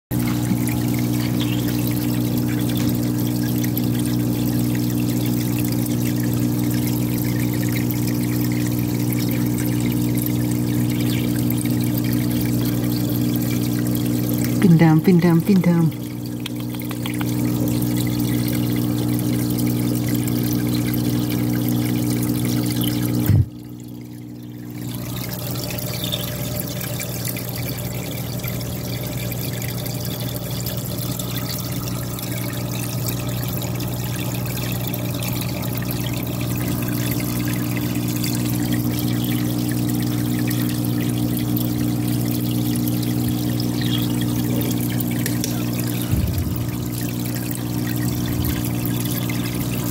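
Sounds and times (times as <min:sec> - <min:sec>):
pump motor hum: 0:00.1 - 0:49.9
water trickling and splashing: 0:00.1 - 0:49.9.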